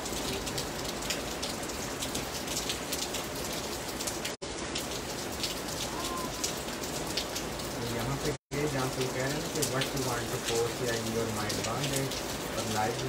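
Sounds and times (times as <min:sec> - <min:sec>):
heavy rain: 0:00.0 - 0:13.0
raindrops ticking: 0:00.0 - 0:13.0.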